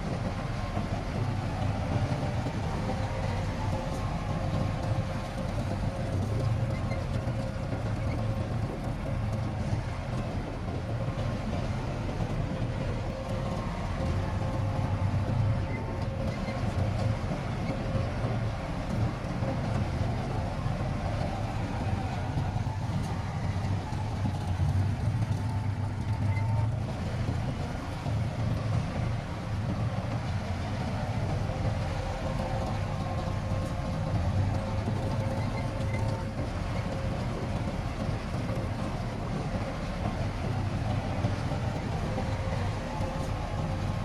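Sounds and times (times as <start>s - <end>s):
faint steady whine: 0.0s - 44.0s
heavy diesel engine rumbling: 0.0s - 44.0s.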